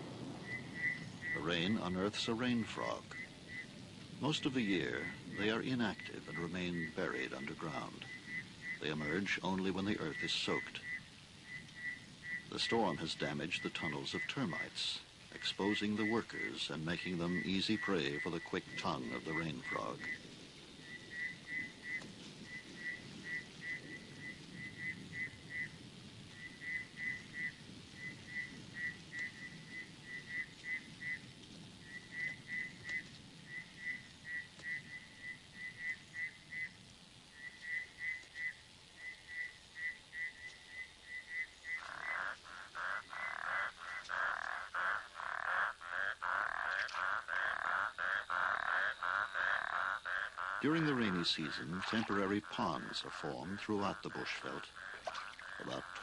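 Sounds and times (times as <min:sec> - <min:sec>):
chorus of pulsed frog calls: 0:00.0 - 0:56.0
frogs chirping: 0:00.0 - 0:56.0.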